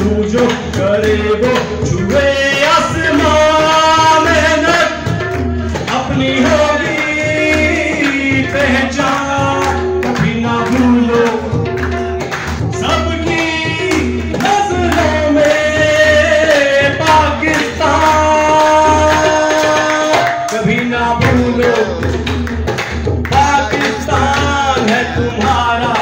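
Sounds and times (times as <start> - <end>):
man singing into a microphone: 0.0 - 22.7, 23.3 - 26.0
tabla: 0.0 - 26.0.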